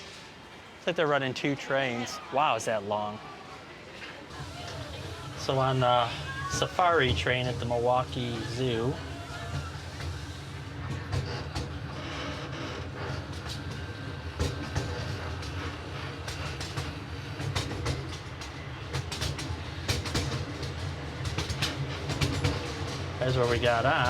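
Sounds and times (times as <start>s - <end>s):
miniature train rumbling: 0.0s - 24.0s
wheels clacking over rail joints: 4.0s - 24.0s.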